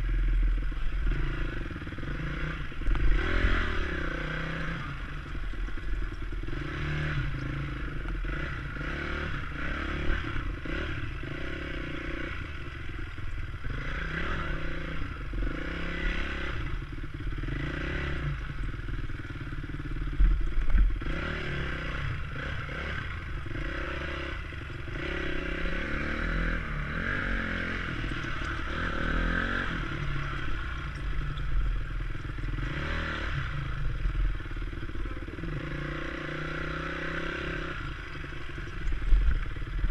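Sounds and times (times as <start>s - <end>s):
chassis rattling over ruts: 0.0s - 39.9s
dirt bike engine at low revs: 0.0s - 39.9s.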